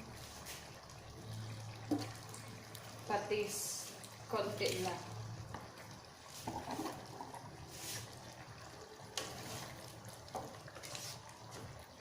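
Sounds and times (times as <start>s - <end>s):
liquid pouring into pot: 0.0s - 12.0s.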